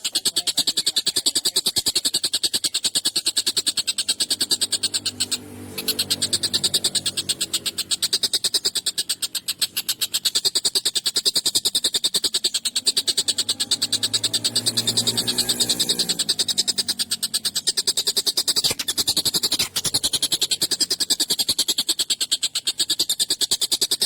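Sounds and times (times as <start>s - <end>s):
kingfisher rattling call: 0.0s - 24.0s.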